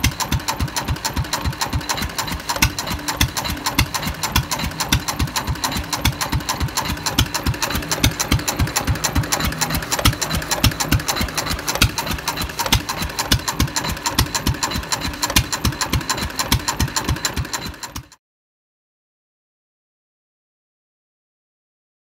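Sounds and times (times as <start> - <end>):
stationary engine clattering: 0.0 - 18.2.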